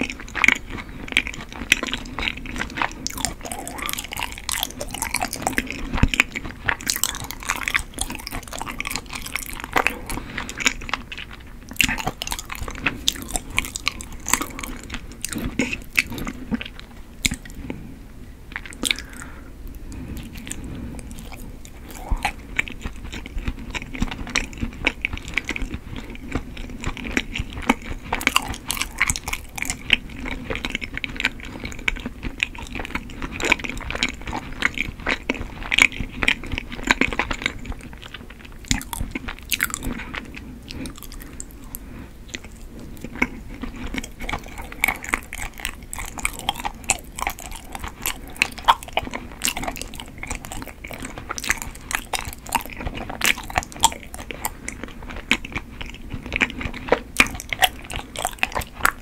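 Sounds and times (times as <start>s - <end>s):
wet sticky chewing: 0.0s - 17.8s, 18.5s - 59.0s.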